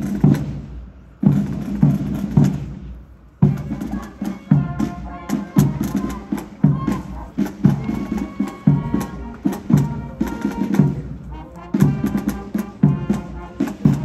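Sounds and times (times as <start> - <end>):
bass drum and snare beat: 0.0 - 14.0
marching band playing: 0.0 - 14.0.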